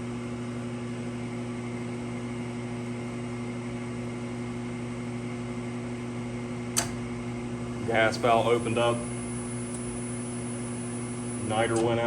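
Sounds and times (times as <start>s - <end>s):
furnace fan motor humming: 0.0s - 12.0s.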